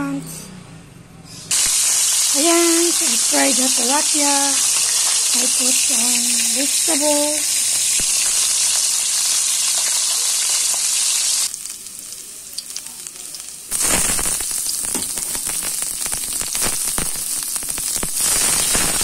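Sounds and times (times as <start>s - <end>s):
oil sizzling and popping: 1.5s - 19.0s.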